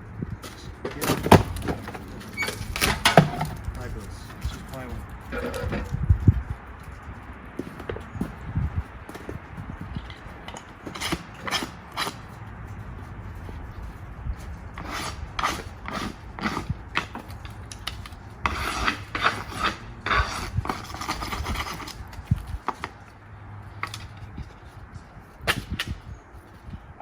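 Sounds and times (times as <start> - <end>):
wood scraping: 0.0 - 26.8.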